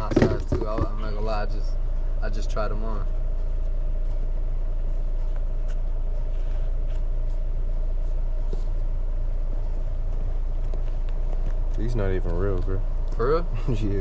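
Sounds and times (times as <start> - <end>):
faint steady hum: 0.0 - 14.0
vehicle engine rumble: 0.0 - 14.0.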